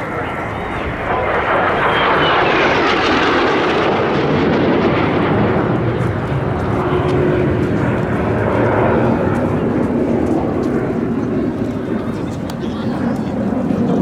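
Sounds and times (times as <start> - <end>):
jet aircraft flying past: 0.0 - 14.0.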